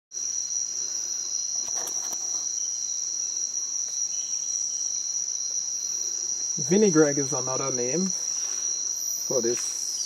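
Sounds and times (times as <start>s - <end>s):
insects trilling: 0.1s - 10.0s.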